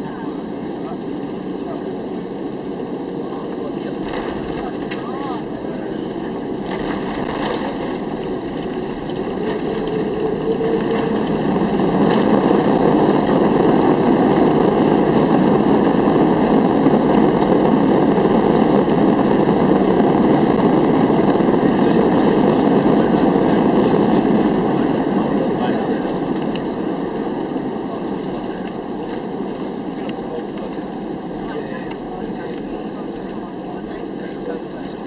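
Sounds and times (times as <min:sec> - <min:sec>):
jet engines roaring in cabin: 0:00.0 - 0:35.0.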